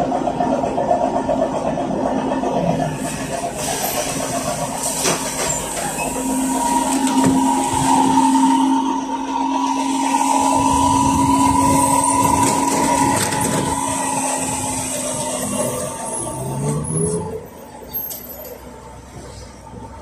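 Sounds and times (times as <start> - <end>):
trolleybus body rattling and rumbling: 0.0 - 20.0.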